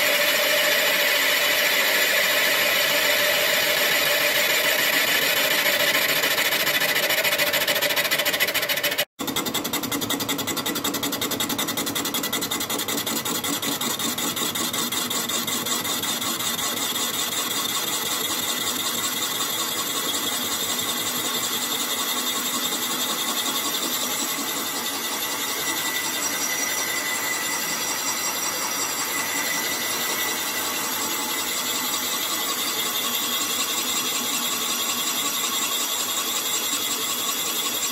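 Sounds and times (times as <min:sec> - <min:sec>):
metal lathe whirring: 0:00.0 - 0:37.9.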